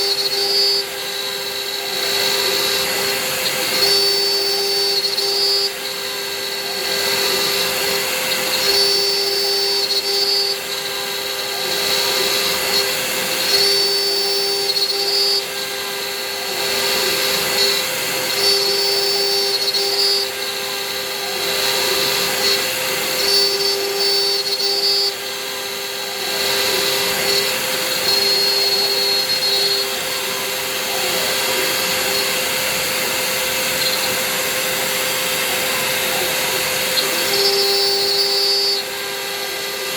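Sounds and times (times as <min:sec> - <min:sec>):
high whining tones: 0:00.0 - 0:39.9
steady motor tone: 0:00.0 - 0:39.9.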